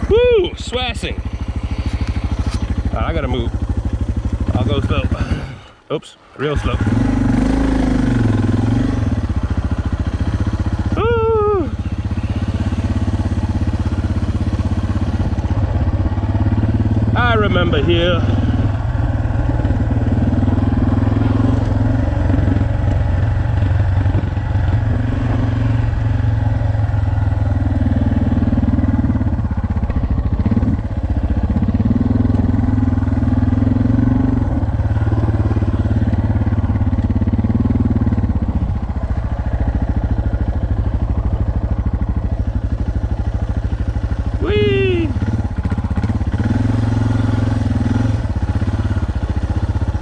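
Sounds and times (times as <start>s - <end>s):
motorcycle engine revving: 0.0s - 5.8s, 6.4s - 50.0s.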